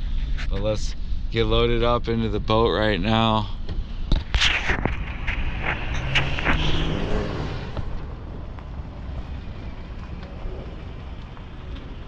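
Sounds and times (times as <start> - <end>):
vehicle engine and tyre noise: 0.0 - 12.0.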